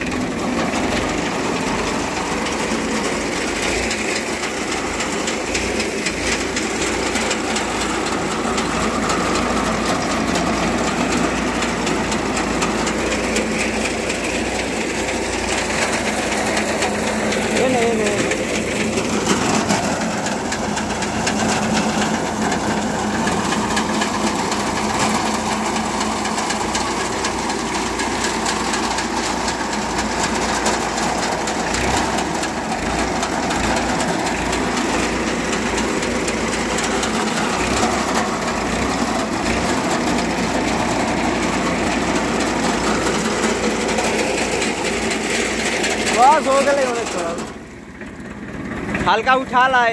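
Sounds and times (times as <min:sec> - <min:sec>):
tractor engine running: 0:00.0 - 0:49.9
reaper cutting wheat: 0:00.4 - 0:47.6.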